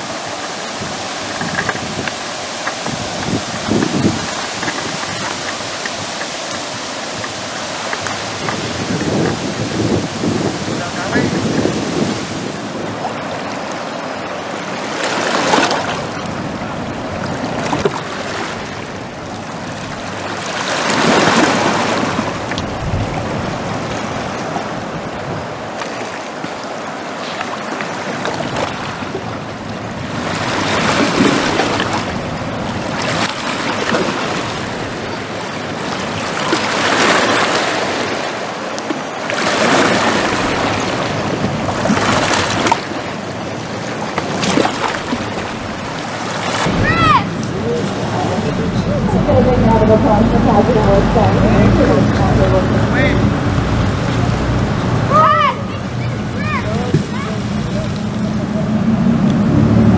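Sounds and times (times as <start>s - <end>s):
whitewater rapids rushing: 0.0s - 59.9s.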